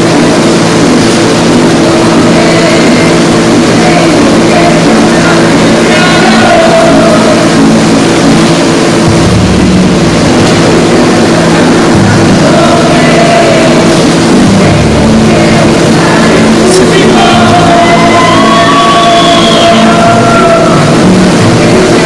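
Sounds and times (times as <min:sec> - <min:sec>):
deep bass: 0:00.0 - 0:22.0
karaoke backing music: 0:00.0 - 0:22.0.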